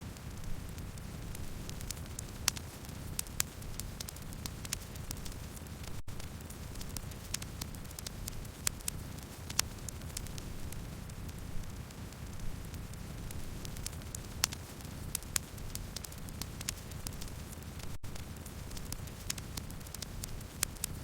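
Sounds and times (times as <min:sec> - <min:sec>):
low rumble of flames: 0:00.0 - 0:21.0
campfire crackling and popping: 0:00.1 - 0:21.0.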